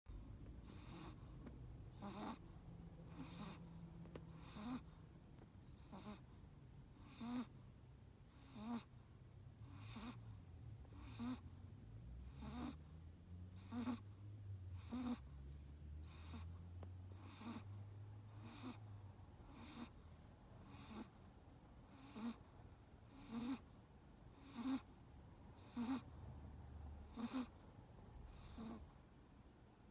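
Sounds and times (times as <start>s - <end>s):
small dog snoring: 0.6s - 5.0s, 5.6s - 25.0s, 25.6s - 26.2s, 27.0s - 27.6s, 28.2s - 29.0s.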